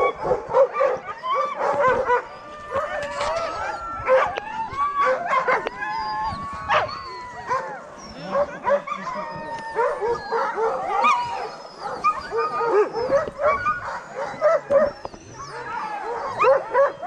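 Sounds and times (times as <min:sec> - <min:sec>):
huskies yelping and barking: 0:00.0 - 0:17.0.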